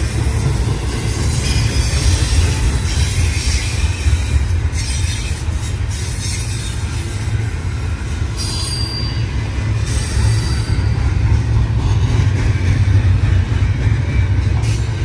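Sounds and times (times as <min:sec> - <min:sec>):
high wheel squeal: 0:00.0 - 0:13.1
freight train rumbling past: 0:00.0 - 0:15.0.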